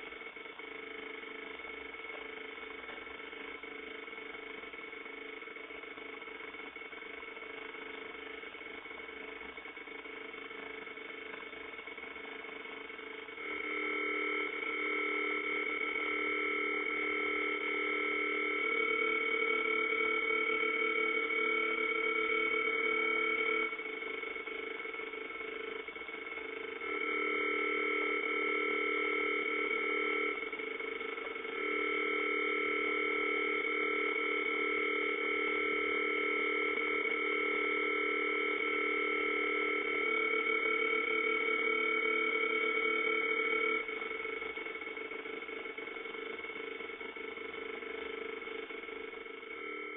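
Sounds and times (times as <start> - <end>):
electronic alarm steady tone: 0.0 - 49.9.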